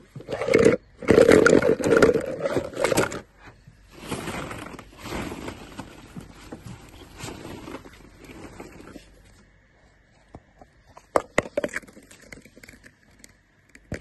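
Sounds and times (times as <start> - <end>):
plastic balls clattering: 0.0 - 3.3, 3.9 - 9.4, 11.0 - 14.0.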